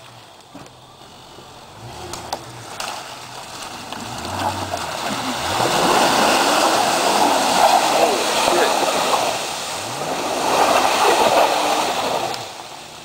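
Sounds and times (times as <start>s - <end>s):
truck engine revving: 0.0s - 13.0s
water splashing and rushing: 0.0s - 13.0s.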